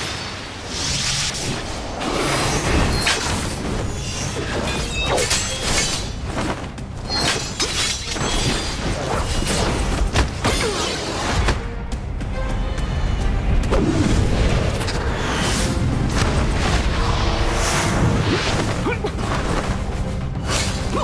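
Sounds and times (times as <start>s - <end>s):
dramatic soundtrack music: 0.0s - 21.0s.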